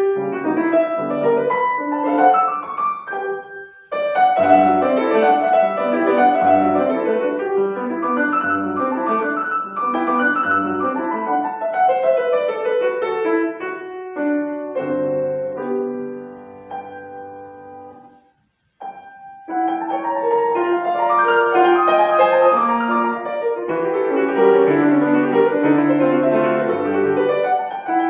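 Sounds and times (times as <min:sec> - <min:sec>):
classical piano piece: 0:00.0 - 0:28.0.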